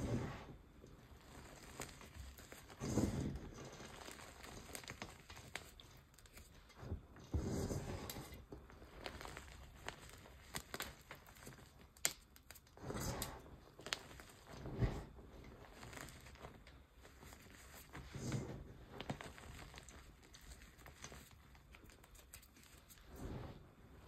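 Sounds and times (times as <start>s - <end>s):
hands squeezing cornstarch powder: 0.0s - 24.0s.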